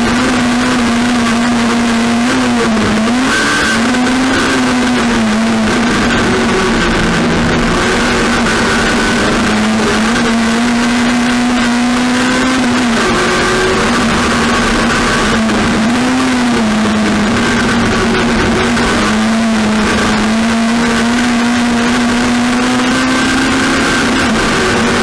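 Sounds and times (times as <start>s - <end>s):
loud rushing noise: 0.0s - 25.0s
race car engine revving high: 0.0s - 25.0s.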